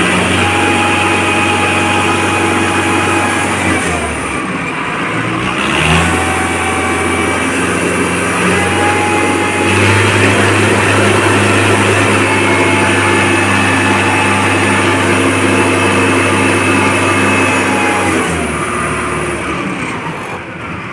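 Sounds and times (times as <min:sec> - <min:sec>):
tractor diesel engine revving: 0:00.0 - 0:20.9.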